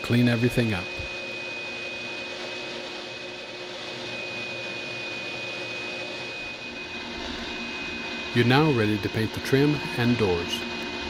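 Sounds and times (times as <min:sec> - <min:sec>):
vacuum cleaner whining: 0:00.0 - 0:11.0.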